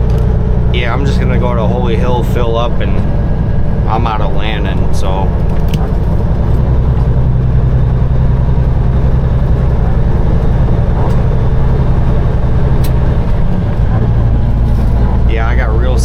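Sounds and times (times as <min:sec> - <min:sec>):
truck diesel engine drone: 0:00.0 - 0:16.0.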